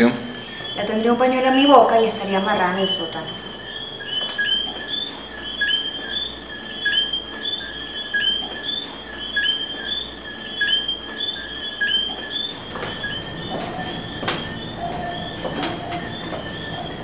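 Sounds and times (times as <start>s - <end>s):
high whistled chirps: 0.3s - 17.0s.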